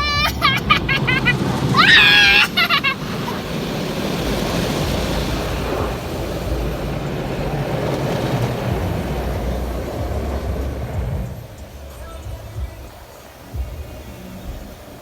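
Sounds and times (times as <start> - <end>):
car wash rushing noise: 0.0 - 15.0.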